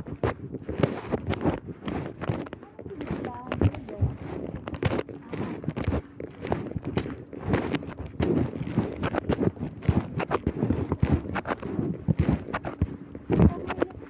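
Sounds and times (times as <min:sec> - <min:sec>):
fabric rubbing on microphone: 0:00.0 - 0:14.0.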